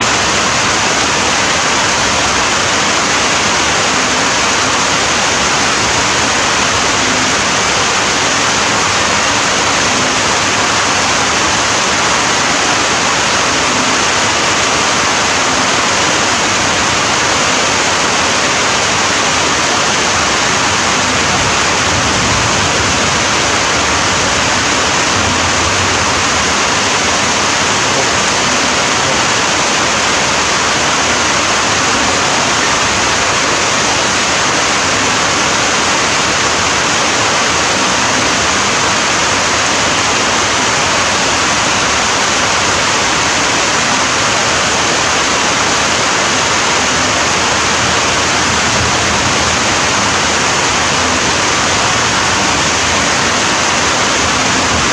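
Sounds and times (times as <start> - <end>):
heavy rain hiss: 0.0 - 54.9.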